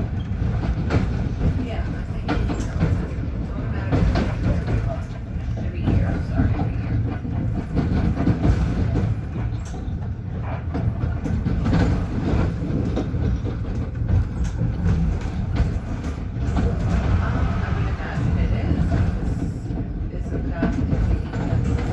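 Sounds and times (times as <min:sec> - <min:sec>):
train rumbling at speed: 0:00.0 - 0:21.9
wheels clacking over rails: 0:00.0 - 0:21.9.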